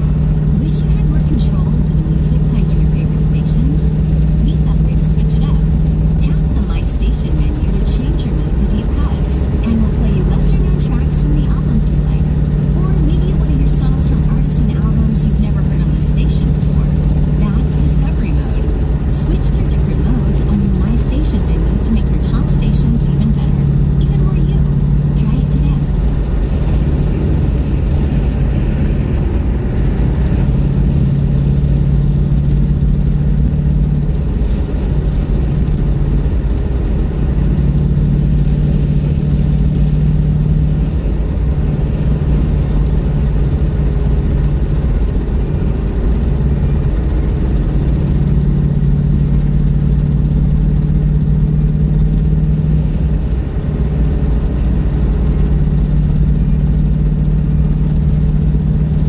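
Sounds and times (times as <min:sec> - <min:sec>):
car engine and road drone: 0:00.0 - 0:59.0.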